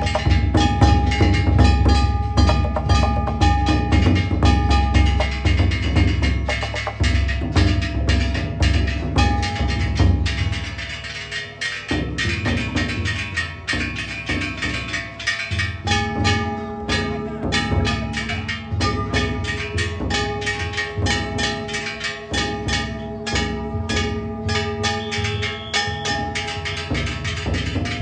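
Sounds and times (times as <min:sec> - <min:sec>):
gongs clanging: 0:00.0 - 0:28.0
large drum beats: 0:00.0 - 0:28.0.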